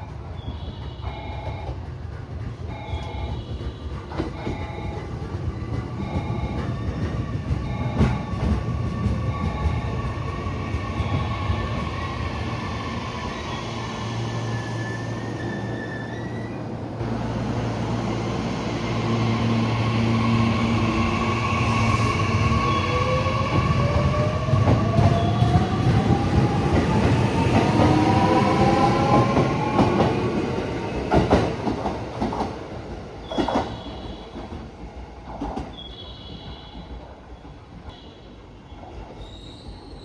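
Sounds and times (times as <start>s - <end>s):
train wheels clacking on rails: 0.1s - 13.4s, 17.0s - 37.9s.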